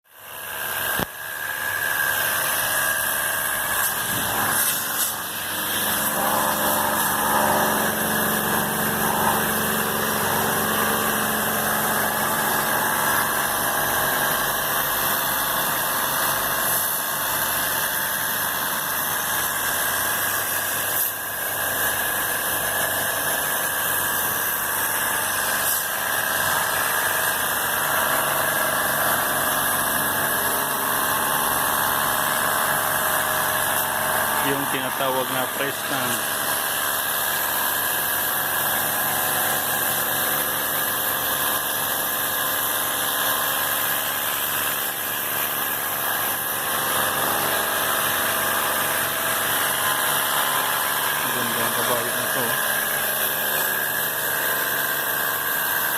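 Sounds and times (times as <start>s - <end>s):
machine motor running: 0.2s - 55.9s.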